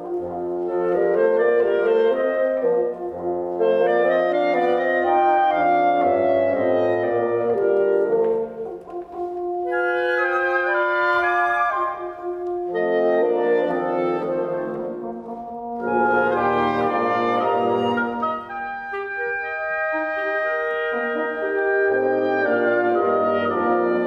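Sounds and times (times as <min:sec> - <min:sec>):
clarinet melody: 0:00.0 - 0:24.0
wind ensemble playing slowly: 0:00.0 - 0:24.0.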